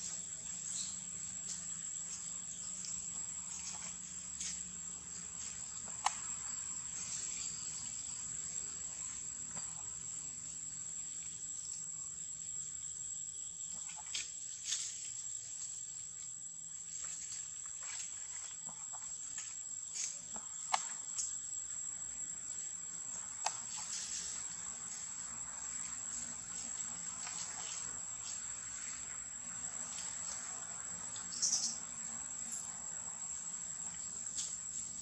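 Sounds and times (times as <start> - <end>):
insect chorus drone: 0.0 - 35.0.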